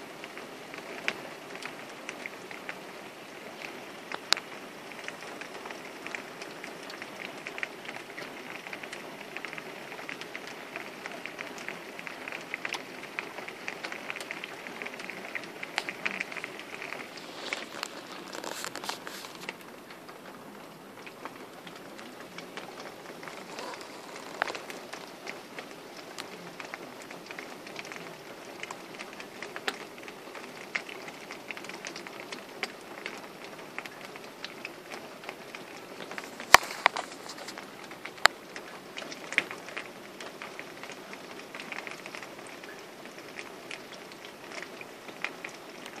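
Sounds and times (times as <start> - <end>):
heavy rain hissing: 0.0 - 46.0
raindrops tapping: 0.0 - 46.0.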